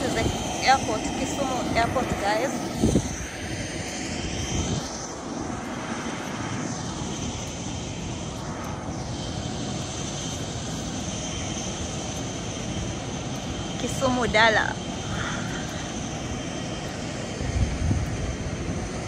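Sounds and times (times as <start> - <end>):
faint high whine: 0.0 - 19.0
turboprop engines running: 0.0 - 19.0.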